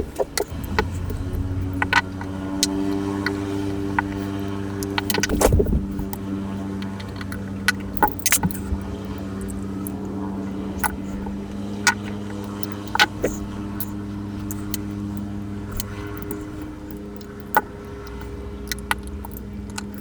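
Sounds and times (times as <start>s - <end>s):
steady low hum: 0.0s - 20.0s
small metal tools clicking: 0.2s - 10.1s, 10.7s - 20.0s.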